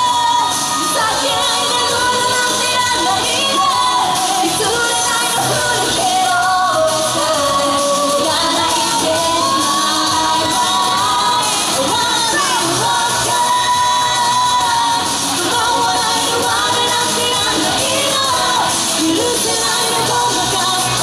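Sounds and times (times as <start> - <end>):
amplified pop backing music: 0.0 - 21.0
female vocal group singing: 0.0 - 21.0.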